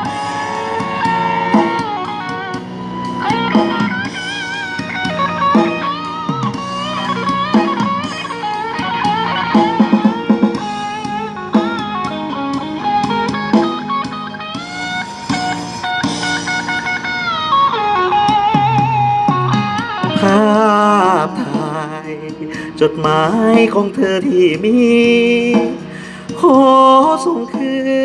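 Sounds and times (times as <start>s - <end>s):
bass guitar: 0.0s - 28.0s
drum kit: 0.0s - 28.0s
electric guitar lead melody: 0.0s - 28.0s.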